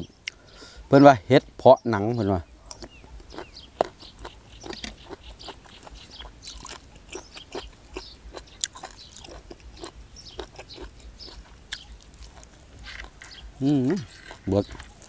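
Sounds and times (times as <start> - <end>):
chewing crunchy food: 2.6 - 15.0.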